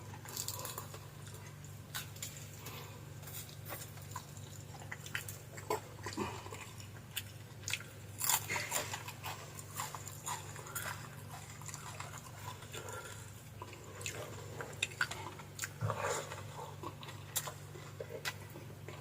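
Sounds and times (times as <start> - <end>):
person chewing food: 0.0 - 19.0
steady low hum: 0.0 - 19.0.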